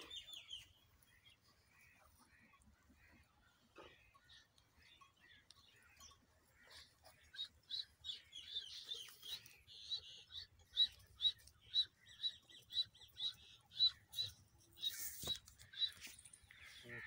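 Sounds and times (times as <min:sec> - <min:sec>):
bird chirping: 0:00.0 - 0:02.2, 0:03.8 - 0:17.0.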